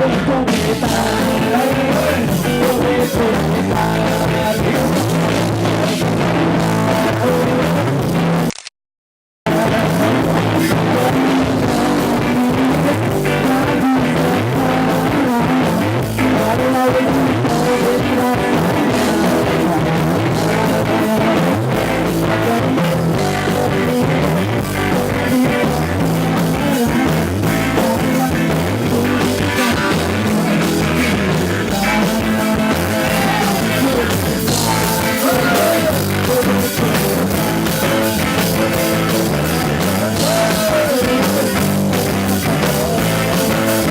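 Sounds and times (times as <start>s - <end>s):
rock band with guitar and drums: 0.0s - 8.5s, 9.5s - 43.9s.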